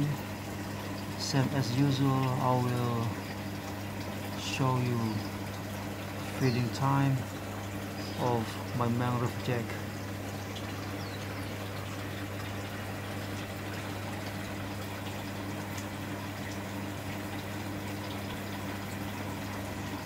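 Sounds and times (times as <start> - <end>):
aquarium pump humming: 0.0 - 20.0
water bubbling and trickling: 0.0 - 20.0.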